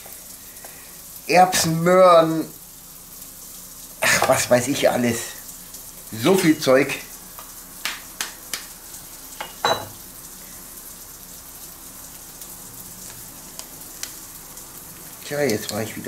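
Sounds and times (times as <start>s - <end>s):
frying pan sizzling: 0.0s - 16.0s.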